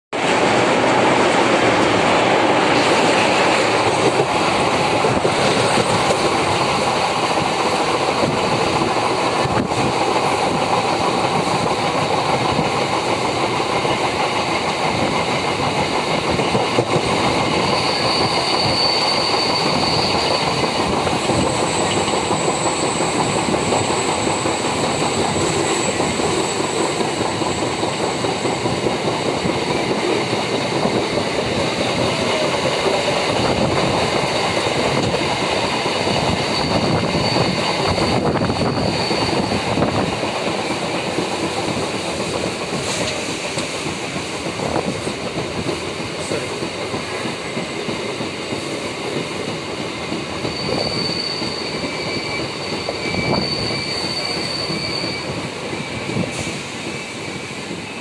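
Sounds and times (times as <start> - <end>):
train wheels rushing on rail: 0.1 - 58.0
rail joint clicks: 0.2 - 58.0.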